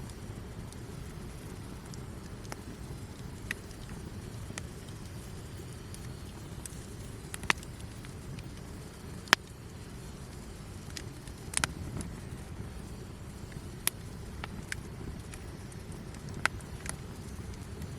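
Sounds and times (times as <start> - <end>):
campfire burning: 0.0 - 17.9
wood popping and crackling: 0.1 - 17.9.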